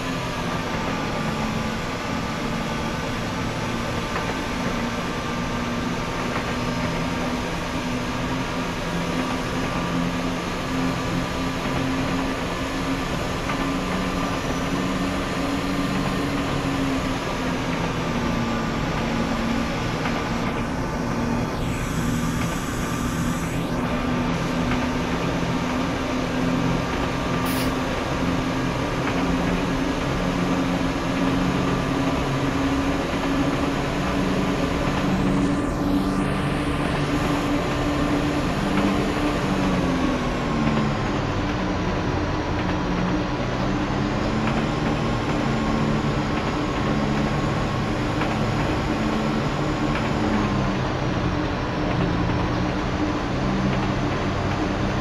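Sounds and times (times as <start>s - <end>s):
diesel train engine drone: 0.0s - 55.0s.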